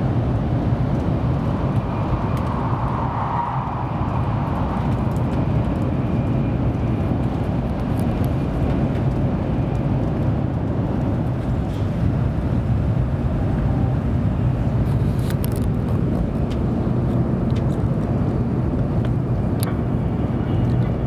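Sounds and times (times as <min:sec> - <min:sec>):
train cabin rumble and hiss: 0:00.0 - 0:21.0.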